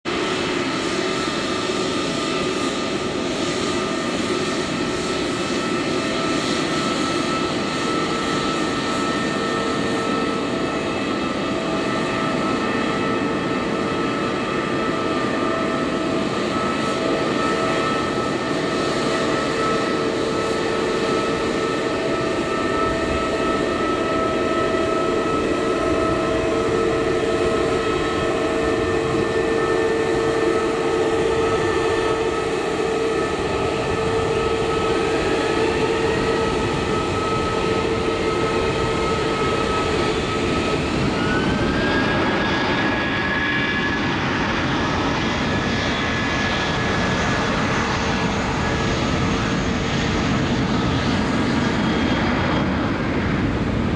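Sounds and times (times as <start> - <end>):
jet engines whining: 0.1 - 53.9.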